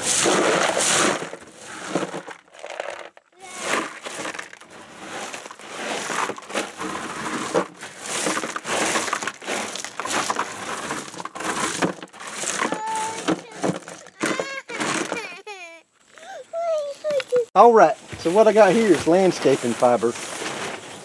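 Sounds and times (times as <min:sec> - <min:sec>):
rocks crunching and clattering: 0:00.0 - 0:15.2, 0:18.0 - 0:21.0.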